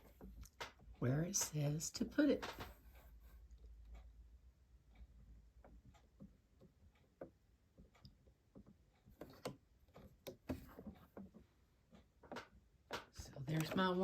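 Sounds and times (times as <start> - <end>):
light clicks and taps of handling: 0.0 - 4.1, 4.9 - 14.0.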